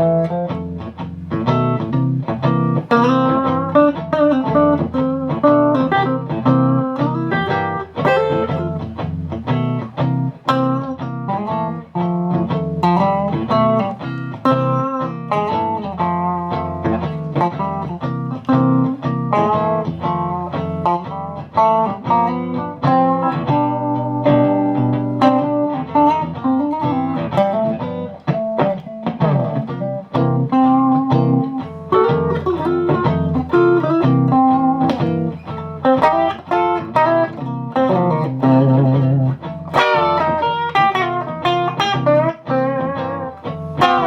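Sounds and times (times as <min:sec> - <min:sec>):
electric guitar through amplifier: 0:00.0 - 0:44.0.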